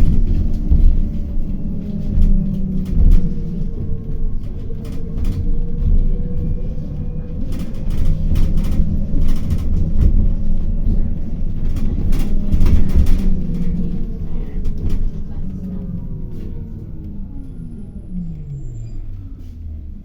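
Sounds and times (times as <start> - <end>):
rattles and knocks: 0.0 - 16.6
bus engine and road rumble: 0.0 - 20.0
drivetrain whine: 0.0 - 20.0.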